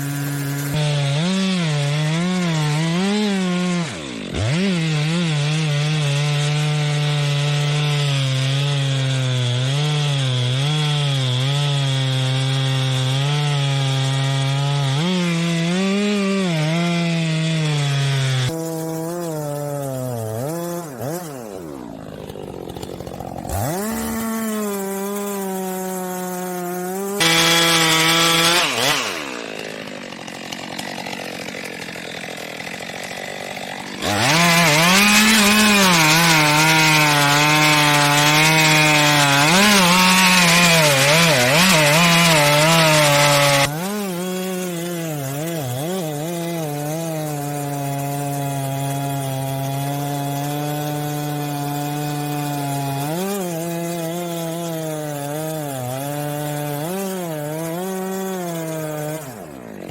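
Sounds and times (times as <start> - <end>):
chainsaw cutting timber: 0.0 - 59.9.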